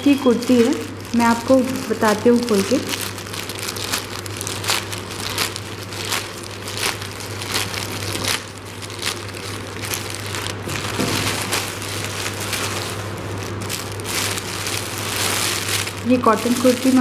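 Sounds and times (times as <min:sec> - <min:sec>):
plastic mailer crinkling: 0:00.0 - 0:17.0.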